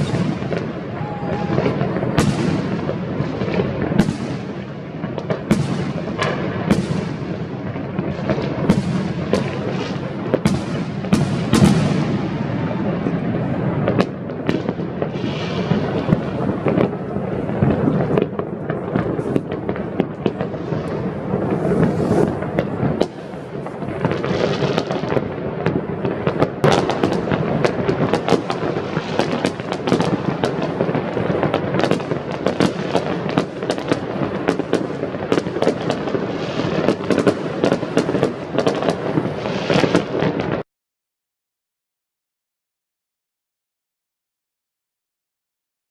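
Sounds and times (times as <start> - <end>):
fireworks bursting: 0.0 - 40.7.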